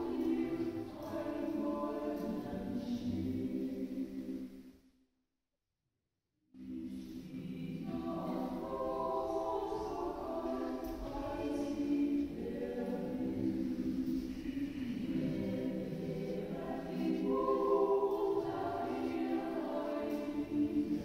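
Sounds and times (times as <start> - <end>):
choir singing: 0.0 - 4.6, 6.6 - 21.0.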